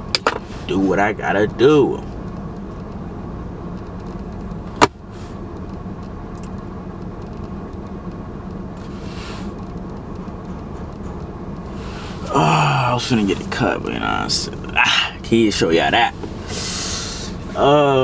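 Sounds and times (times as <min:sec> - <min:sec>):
car idling: 0:00.0 - 0:18.0.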